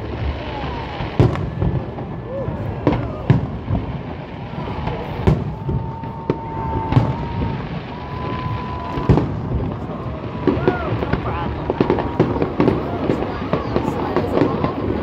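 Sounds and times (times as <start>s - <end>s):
firework whistle: 0.0s - 14.7s.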